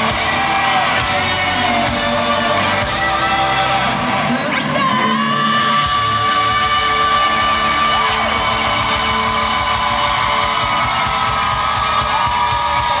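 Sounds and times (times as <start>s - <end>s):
crowd yelling and whooping: 0.0s - 13.0s
rock band playing live: 0.0s - 13.0s.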